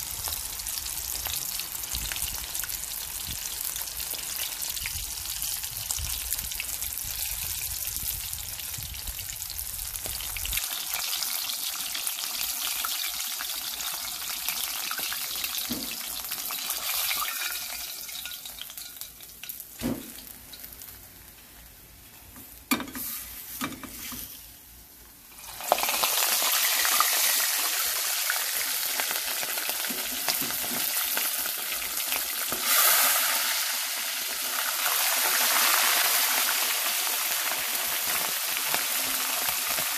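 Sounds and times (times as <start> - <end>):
chicken sizzling in hot oil: 0.0 - 21.8, 25.3 - 39.9.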